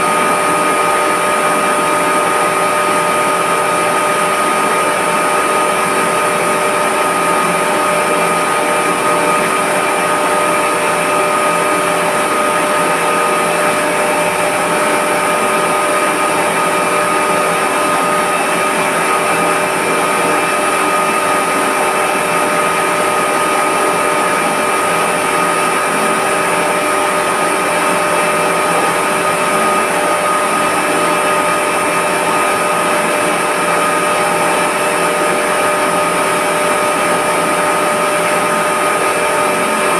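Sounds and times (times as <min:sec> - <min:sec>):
pump motor drone with whine: 0:00.0 - 0:39.9.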